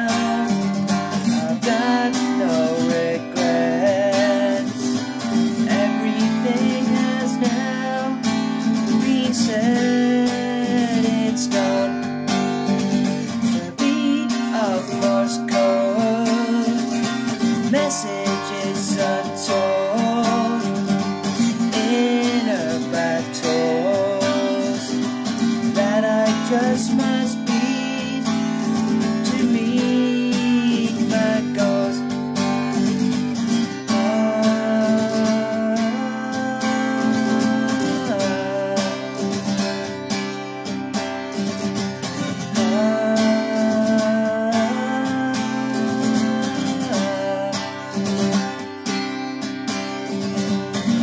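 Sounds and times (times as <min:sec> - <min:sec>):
man singing: 0:00.0 - 0:40.4, 0:41.6 - 0:48.6
acoustic guitar strumming: 0:00.0 - 0:51.0.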